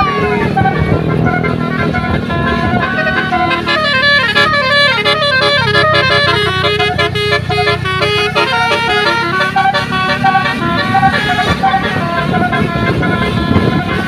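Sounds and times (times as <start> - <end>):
bus engine running: 0.0 - 14.0
multi-tone musical air horn: 0.0 - 14.0.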